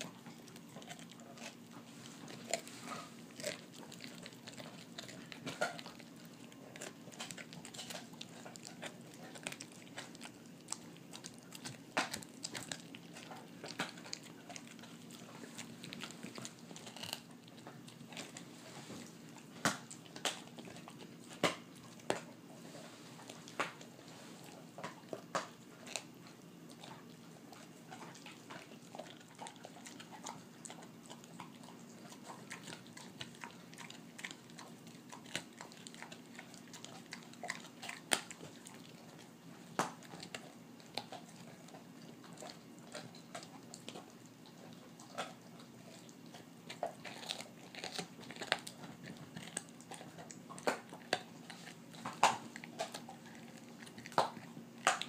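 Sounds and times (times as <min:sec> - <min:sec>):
dog chewing bone: 0:00.0 - 0:55.0.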